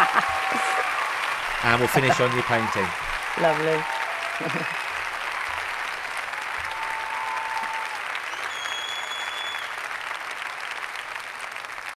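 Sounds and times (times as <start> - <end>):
applause: 0.0 - 12.0.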